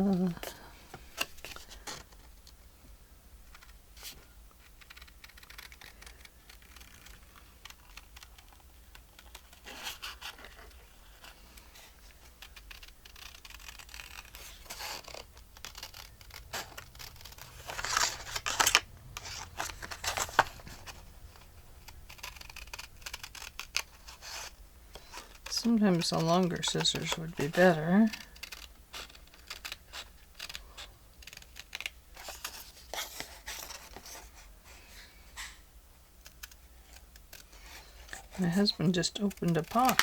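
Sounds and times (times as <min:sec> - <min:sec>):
scissors cutting paper: 0:04.6 - 0:34.3, 0:36.2 - 0:40.0.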